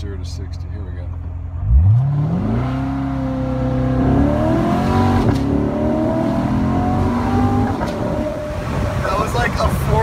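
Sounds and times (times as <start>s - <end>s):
car engine accelerating hard: 1.6s - 10.0s.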